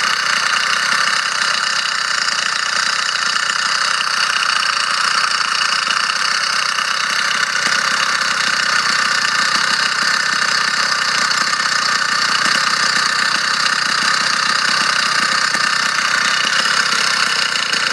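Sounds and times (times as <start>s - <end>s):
rattle inside engine: 0.0s - 17.9s
small engine running: 0.0s - 17.9s.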